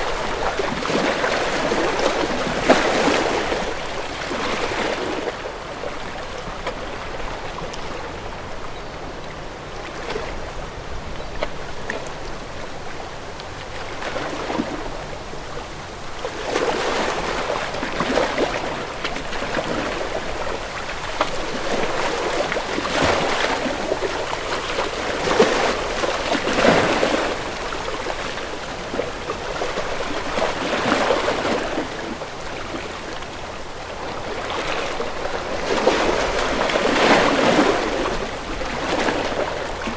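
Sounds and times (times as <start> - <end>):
waves lapping against boat hull: 0.0 - 39.9.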